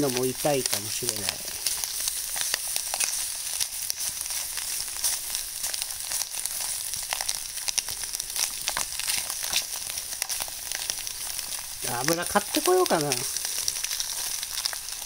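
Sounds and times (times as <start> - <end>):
food sizzling in a foil tray: 0.0 - 15.0.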